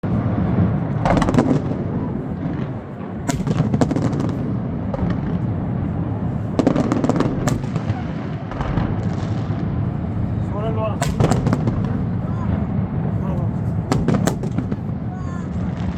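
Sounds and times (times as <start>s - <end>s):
fireworks bangs and crackles: 0.0s - 15.9s
steady low rumble: 0.0s - 15.9s.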